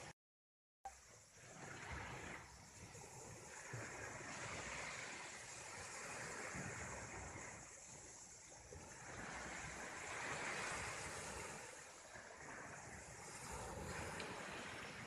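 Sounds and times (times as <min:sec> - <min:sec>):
sea waves washing on shore: 0:00.9 - 0:15.0
wind on microphone: 0:01.4 - 0:15.0.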